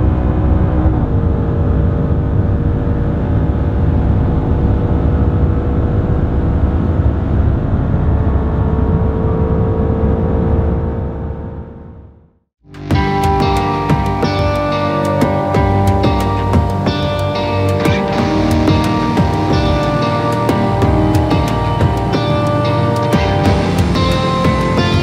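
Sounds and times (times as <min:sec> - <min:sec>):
car engine drone: 0:00.0 - 0:25.0.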